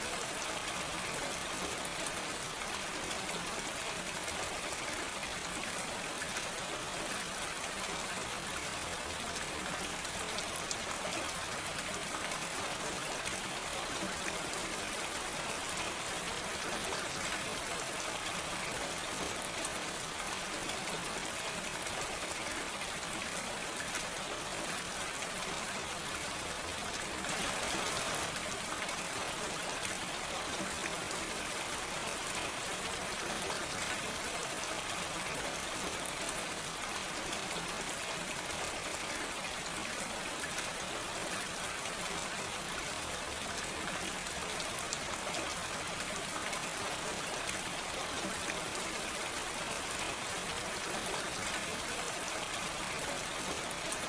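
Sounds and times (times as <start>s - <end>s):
gentle rain pattering: 0.0s - 54.0s.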